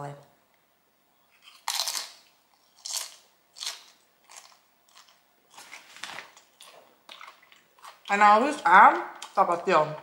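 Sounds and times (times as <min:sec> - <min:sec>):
crunchy chewing of chips: 0:01.2 - 0:09.4.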